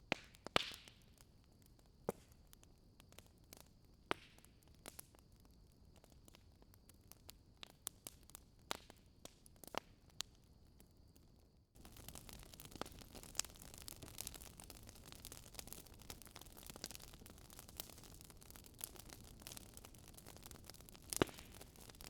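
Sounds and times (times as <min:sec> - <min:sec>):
wood fire crackling: 0:00.1 - 0:10.4, 0:11.8 - 0:22.0.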